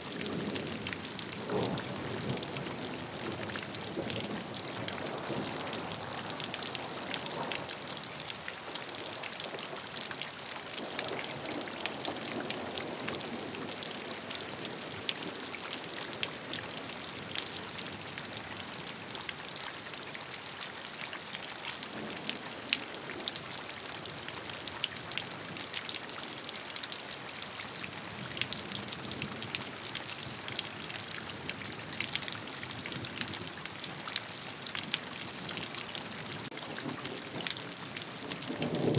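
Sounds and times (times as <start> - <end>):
hiss of rainfall: 0.0 - 38.9
rain drops ticking on a surface: 0.0 - 38.9.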